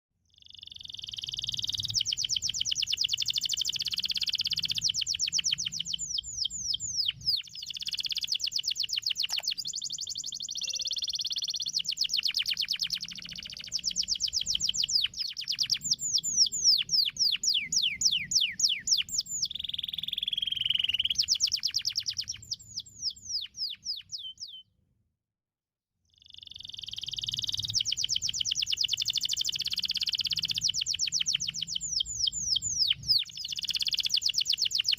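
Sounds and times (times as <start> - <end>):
canary singing trills: 0.3 - 24.6, 26.2 - 34.9.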